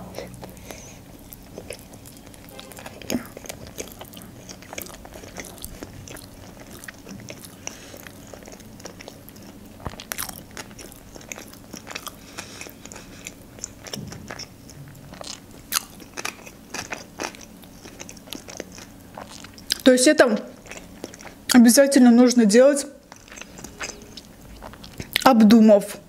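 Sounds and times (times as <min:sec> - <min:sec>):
person chewing food: 0:00.0 - 0:19.8, 0:20.5 - 0:21.6, 0:23.0 - 0:25.2.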